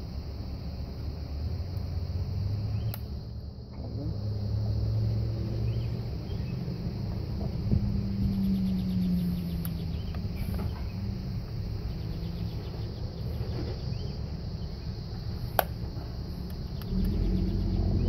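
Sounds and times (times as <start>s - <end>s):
faint insect chirping: 0.0s - 18.0s
low rumble: 2.2s - 18.0s.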